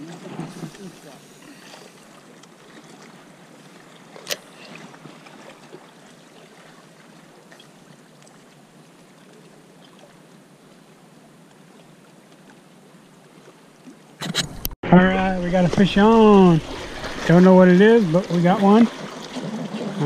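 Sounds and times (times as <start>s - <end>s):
water lapping at rocks: 0.0s - 14.2s, 15.4s - 20.0s
wind: 0.0s - 20.0s.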